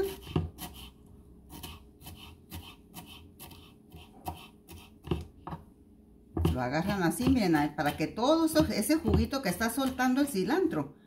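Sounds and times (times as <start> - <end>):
knife chopping on wooden board: 0.0 - 0.9, 1.5 - 5.7, 6.3 - 10.1.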